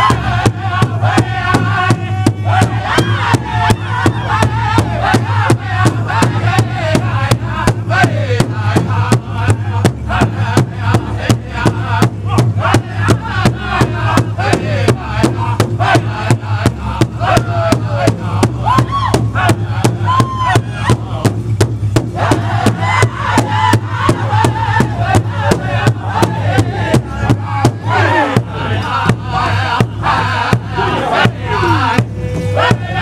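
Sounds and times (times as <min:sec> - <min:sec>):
group singing in high voices: 0:00.0 - 0:33.0
large hide drum beating: 0:00.0 - 0:33.0.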